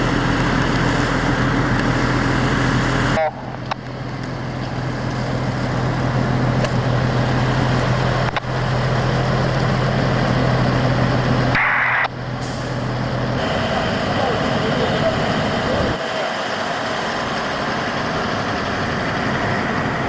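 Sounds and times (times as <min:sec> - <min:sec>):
broad rushing noise: 0:00.0 - 0:20.0
diesel engine humming: 0:00.0 - 0:20.0.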